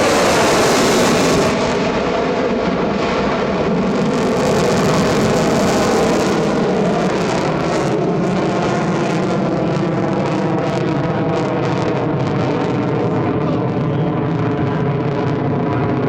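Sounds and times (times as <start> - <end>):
jet engine roaring hiss: 0.0 - 16.0.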